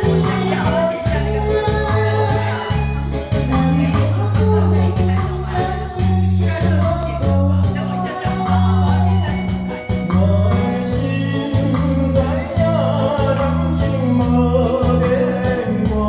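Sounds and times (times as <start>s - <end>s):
pop backing track with bass: 0.0s - 16.0s
woman singing into microphone: 0.0s - 16.0s.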